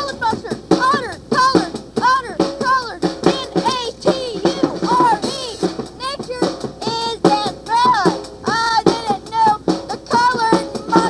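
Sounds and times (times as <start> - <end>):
drum kit and bass: 0.0 - 11.0
high bending sung vocal: 0.0 - 11.0.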